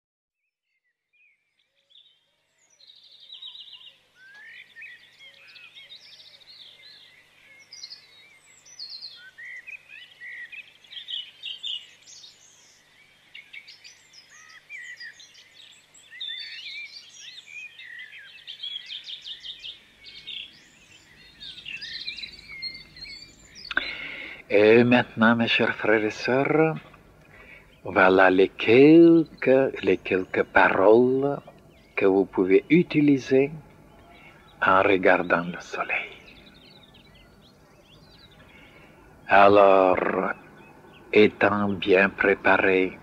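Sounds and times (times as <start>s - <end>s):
songbirds chirping and trilling: 0.7s - 43.0s.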